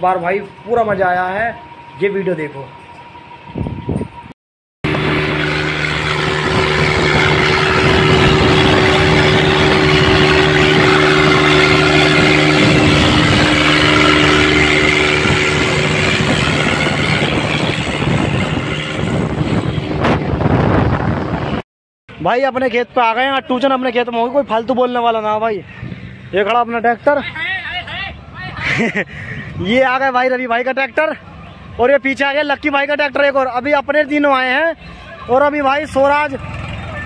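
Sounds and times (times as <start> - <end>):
tractor diesel engines under load: 0.0 - 37.0.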